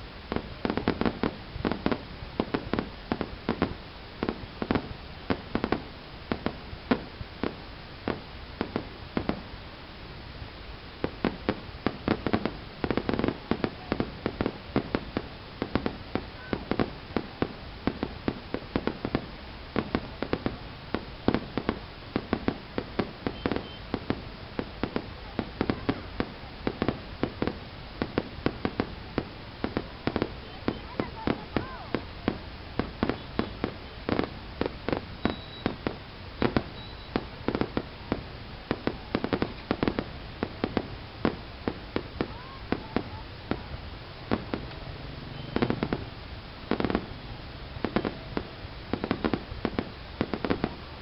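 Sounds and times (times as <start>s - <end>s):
fireworks bangs and cracks: 0.0s - 9.6s, 11.0s - 51.0s.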